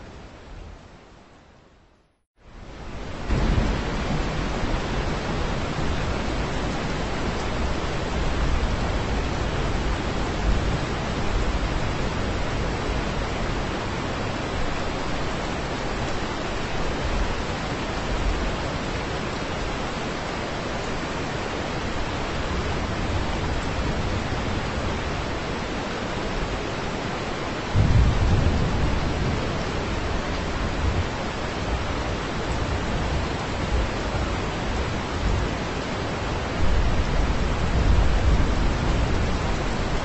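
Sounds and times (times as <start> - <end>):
heavy rain pouring: 2.4 - 40.0.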